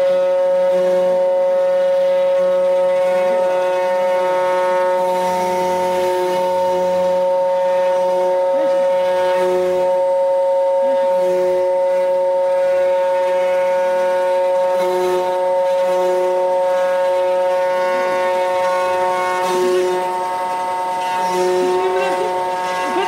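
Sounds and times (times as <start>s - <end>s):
cnc spindle whine: 0.0s - 23.0s
low motor tones: 0.0s - 23.0s.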